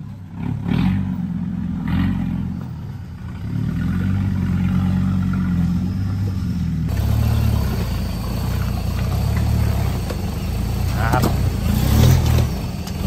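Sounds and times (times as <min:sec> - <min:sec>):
off-road engine revving: 0:00.0 - 0:13.0.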